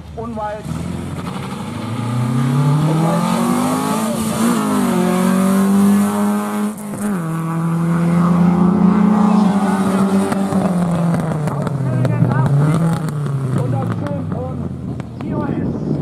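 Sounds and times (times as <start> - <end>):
rally car engine accelerating: 0.4 - 15.4.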